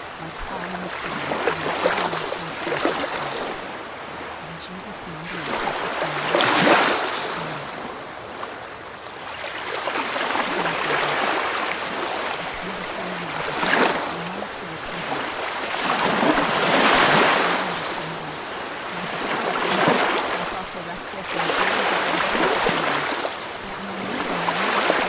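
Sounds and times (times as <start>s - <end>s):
ocean surf washing: 0.0s - 25.0s.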